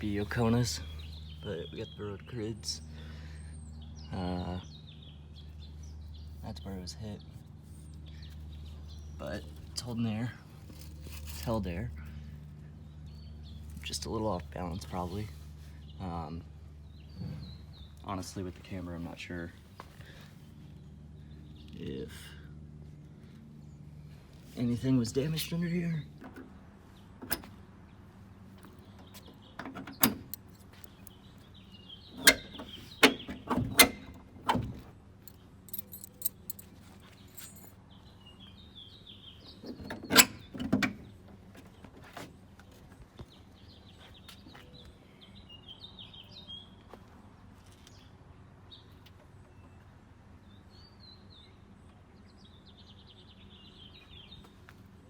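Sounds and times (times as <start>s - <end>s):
birds chirping faintly: 0.0s - 54.9s.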